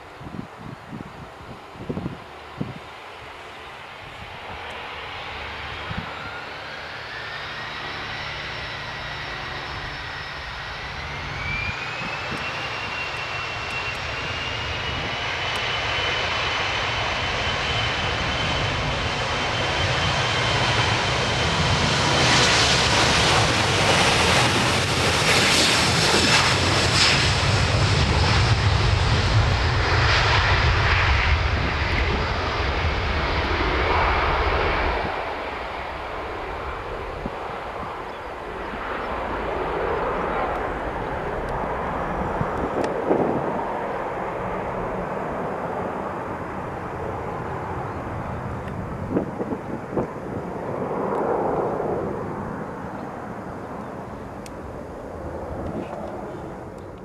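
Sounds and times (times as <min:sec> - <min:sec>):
jet engine roar: 0:00.0 - 0:57.0
jet engines whining: 0:00.0 - 0:57.0.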